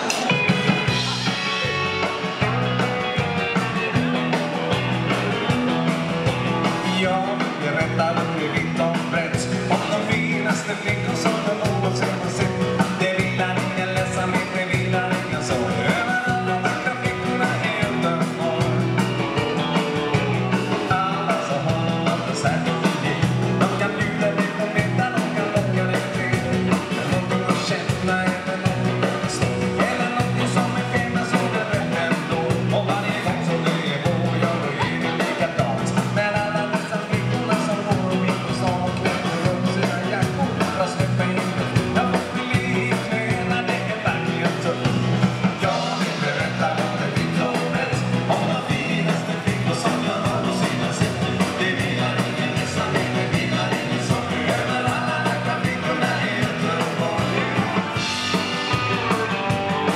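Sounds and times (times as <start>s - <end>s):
dance band playing live: 0.0s - 59.9s
electric bass guitar: 0.0s - 59.9s.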